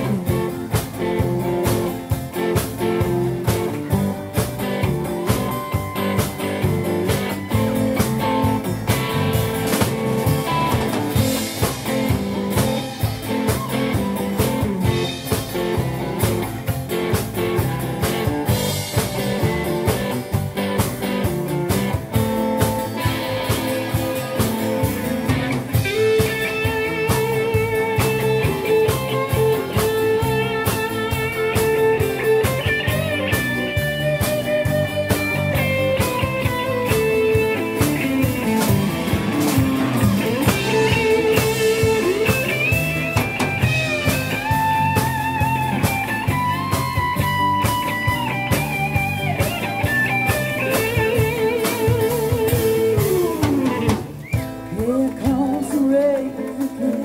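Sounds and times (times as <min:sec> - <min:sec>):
wavering lead melody: 0:00.0 - 0:54.1
drum kit: 0:00.0 - 0:57.0
electric bass: 0:00.0 - 0:57.0.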